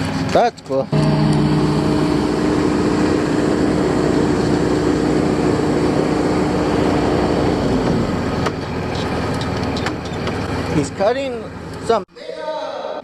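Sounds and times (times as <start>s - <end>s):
heavy construction machinery running: 0.0s - 11.8s.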